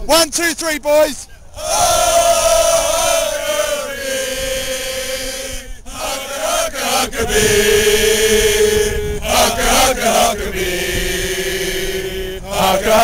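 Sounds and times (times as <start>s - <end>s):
men chanting in unison: 1.5s - 13.0s.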